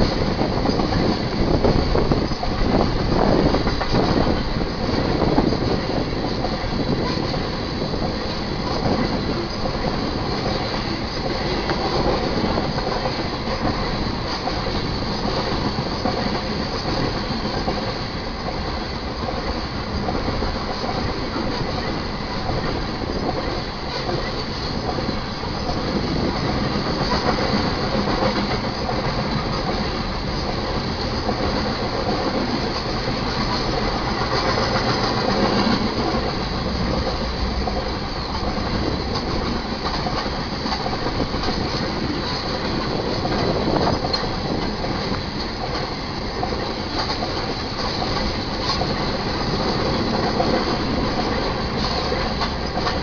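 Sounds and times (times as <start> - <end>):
train cars rolling over rails: 0.0 - 53.0.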